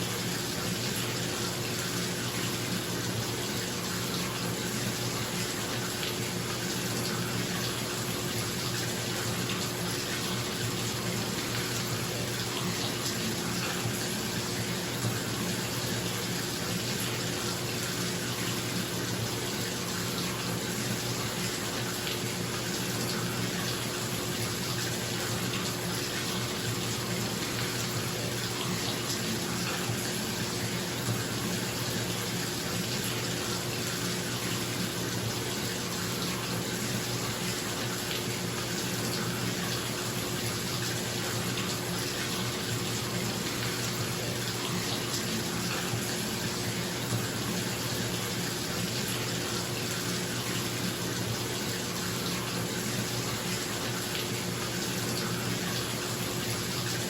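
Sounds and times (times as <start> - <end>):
water splashing into a bathtub: 0.0 - 57.0.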